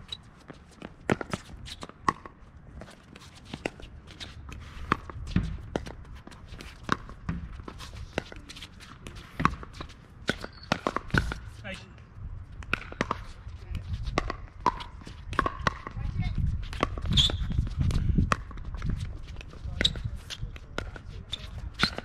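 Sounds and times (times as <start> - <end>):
footsteps on hard court: 0.0 - 11.8, 12.6 - 22.0.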